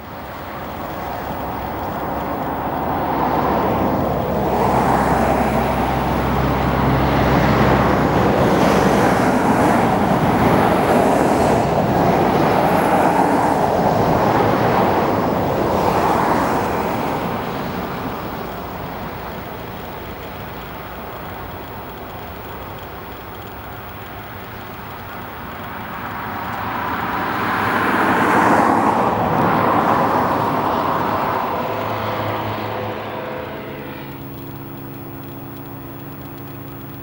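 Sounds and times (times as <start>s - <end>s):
low propeller drone: 0.0s - 37.0s
turboprop engines roaring: 0.0s - 37.0s.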